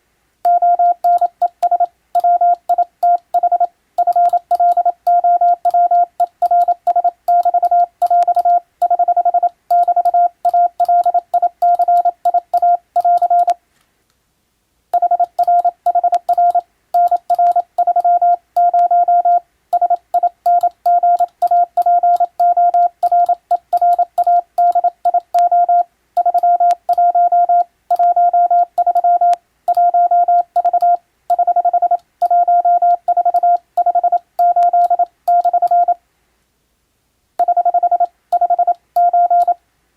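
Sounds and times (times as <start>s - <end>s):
morse code beeps: 0.5s - 13.6s, 15.0s - 36.0s, 37.4s - 39.6s.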